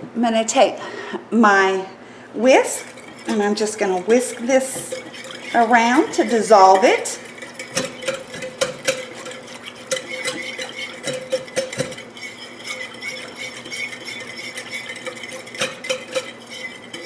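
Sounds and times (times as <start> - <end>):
whisk stirring water in bowl: 2.4 - 17.0
whisk clicking against bowl: 2.6 - 17.0.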